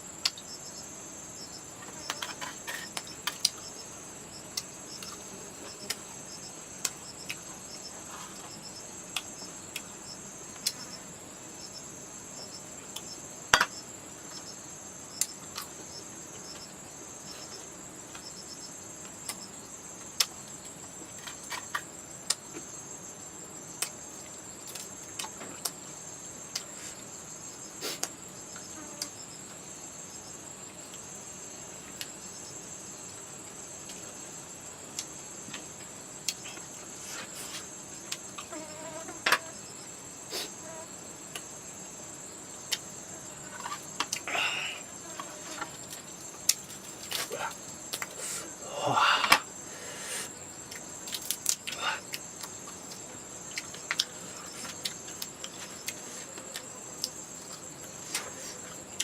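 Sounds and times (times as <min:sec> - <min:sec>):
insect chirring trill: 0:00.0 - 0:59.0.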